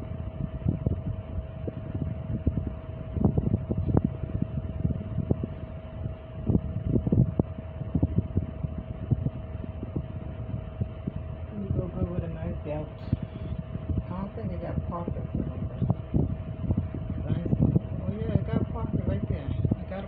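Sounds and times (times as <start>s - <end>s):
thin steady hum: 0.0s - 20.0s.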